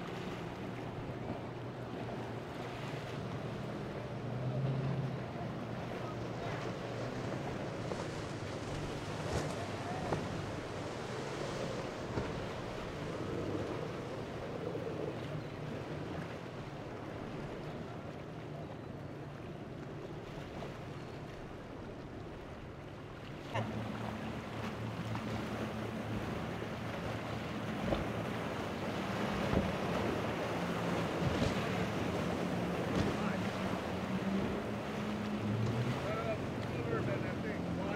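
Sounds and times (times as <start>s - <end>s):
waves rushing: 0.0s - 18.6s, 20.0s - 37.9s
outboard boat engines: 0.0s - 37.9s
steady engine drone: 0.0s - 37.9s
wind: 0.0s - 37.9s.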